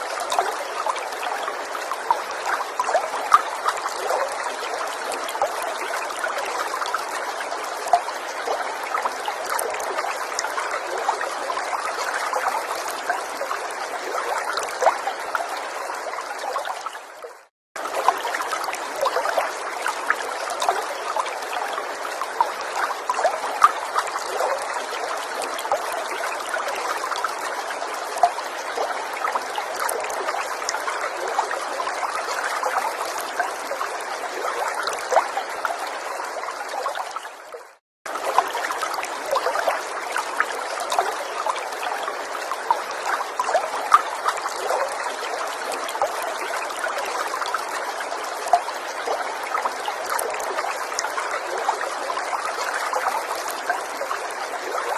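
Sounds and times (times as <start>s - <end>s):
forest stream trickling: 0.0s - 54.9s
water splashes and drips: 0.0s - 54.9s.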